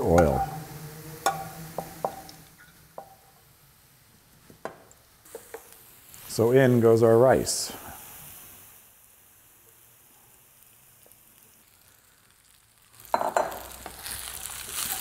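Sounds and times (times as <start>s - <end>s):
rice sizzling in frying pan: 0.0s - 15.0s.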